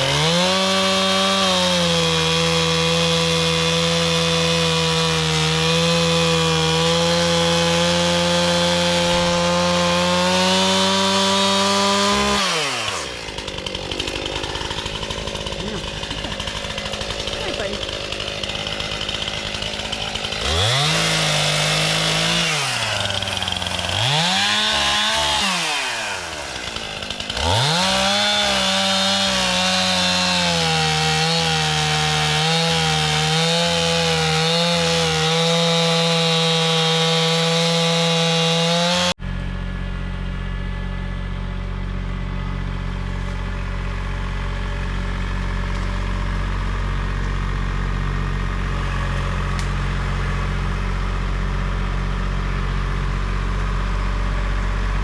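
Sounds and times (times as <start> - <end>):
tractor diesel engine droning: 0.0 - 35.8, 39.2 - 55.0
chainsaw cutting wood: 0.0 - 55.0.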